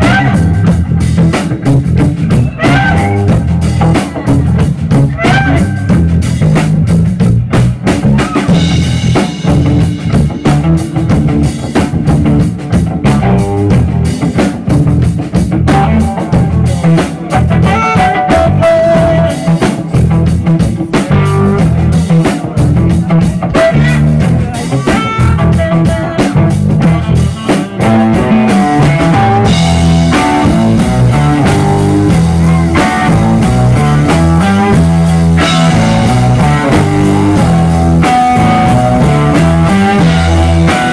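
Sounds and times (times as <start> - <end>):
drum kit: 0.0 - 40.9
electric bass: 0.0 - 40.9
electric guitar: 0.0 - 40.9.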